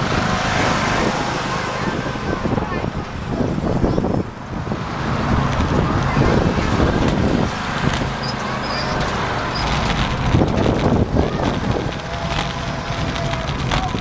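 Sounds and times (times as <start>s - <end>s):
engine low drone: 0.0s - 14.0s.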